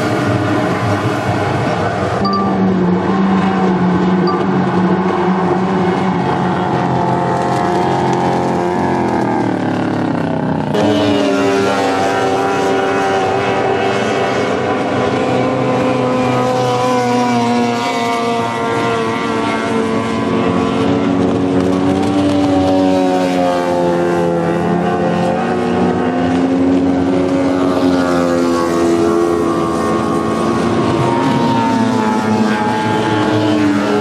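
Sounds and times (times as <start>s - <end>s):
racing boat motors passing: 0.0s - 34.0s.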